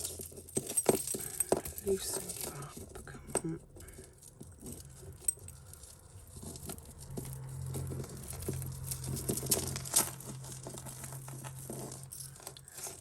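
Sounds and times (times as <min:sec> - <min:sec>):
jewellery chains clinking and rustling: 0:00.0 - 0:13.0.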